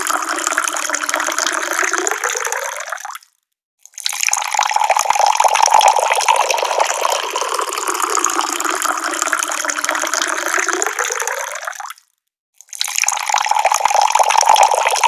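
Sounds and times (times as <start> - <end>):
tap water pouring: 0.0 - 3.3, 3.9 - 12.0, 12.6 - 15.0.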